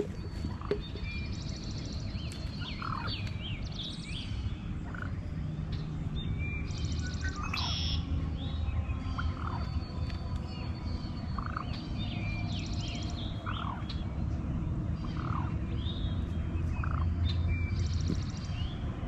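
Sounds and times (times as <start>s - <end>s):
low steady rumble: 0.0s - 19.0s
songbirds singing: 0.0s - 19.0s.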